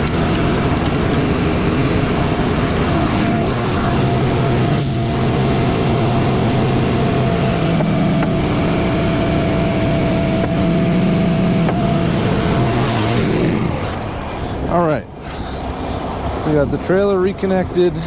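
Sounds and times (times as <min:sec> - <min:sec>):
high whine: 0:00.0 - 0:14.8
diesel truck engine running: 0:00.0 - 0:18.0.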